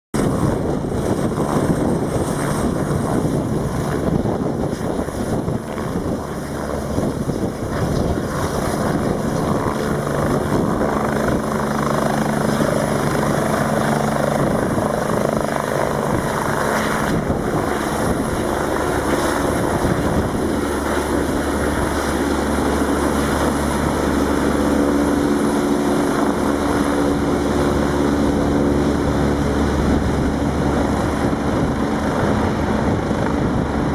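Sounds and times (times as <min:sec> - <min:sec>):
helicopter turbine and rotor: 0:00.2 - 0:33.9.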